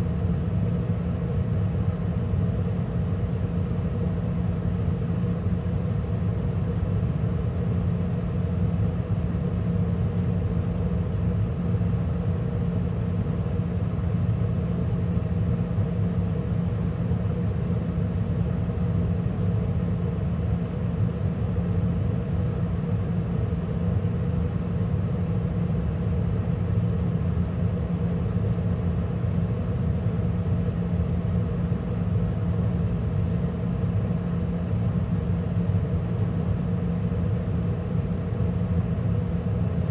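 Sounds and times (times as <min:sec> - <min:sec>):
gas furnace rumbling hum: 0:00.0 - 0:39.9.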